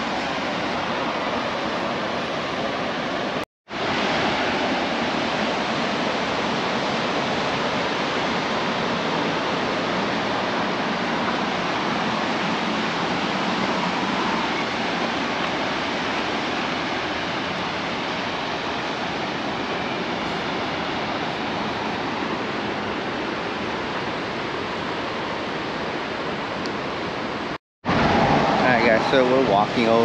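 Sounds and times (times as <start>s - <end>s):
ocean surf breaking: 0.0s - 30.0s
wind: 0.0s - 30.0s.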